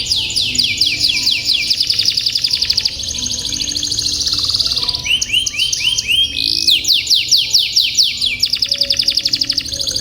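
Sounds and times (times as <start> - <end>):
canary singing trills: 0.0 - 10.0.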